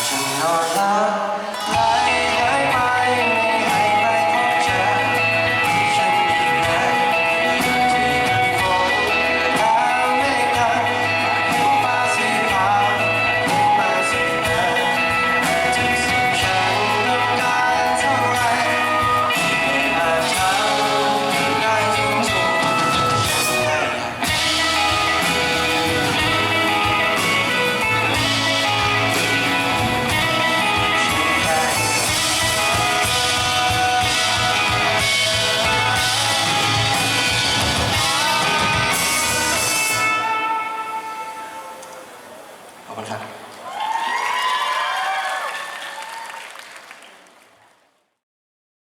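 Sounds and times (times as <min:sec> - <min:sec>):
person singing: 0:00.0 - 0:42.0
live pop-rock band: 0:00.0 - 0:46.9.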